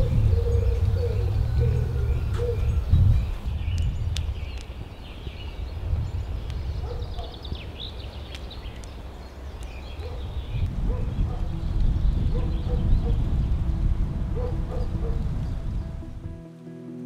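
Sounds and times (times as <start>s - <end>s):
birds chirping: 0.0s - 16.4s
low wind rumble: 0.0s - 16.5s.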